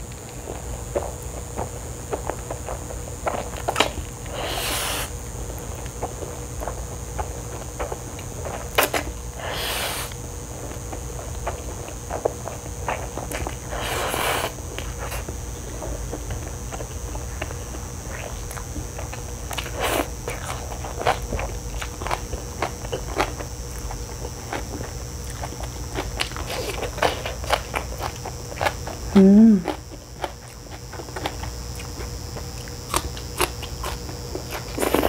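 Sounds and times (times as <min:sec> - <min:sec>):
wet chewing: 0:00.2 - 0:35.0.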